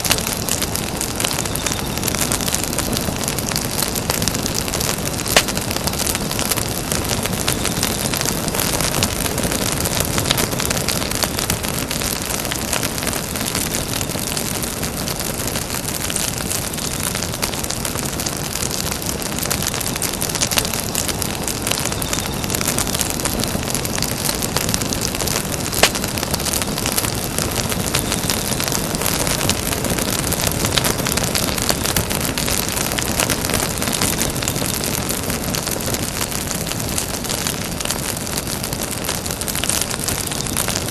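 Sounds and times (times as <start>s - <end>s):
campfire crackling: 0.0s - 40.9s
campfire pops: 0.0s - 40.9s.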